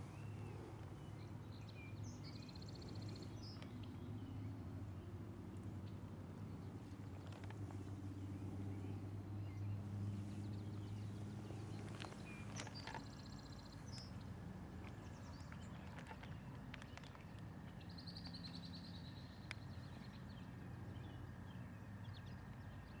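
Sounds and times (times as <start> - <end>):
birds chirping: 0.0 - 23.0
low steady hum: 0.0 - 23.0.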